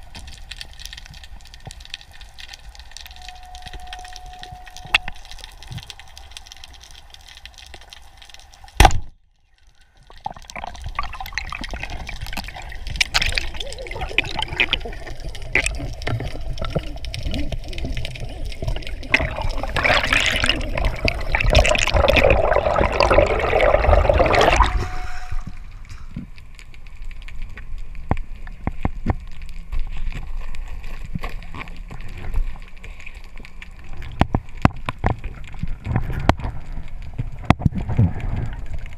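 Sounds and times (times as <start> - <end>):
underwater rushing and bubbling: 0.0 - 38.9.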